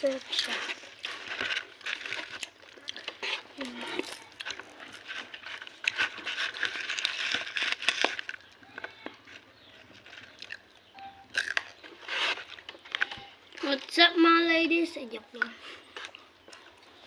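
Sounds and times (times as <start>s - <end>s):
crunchy snacks being chewed: 0.0s - 14.2s, 14.8s - 17.0s.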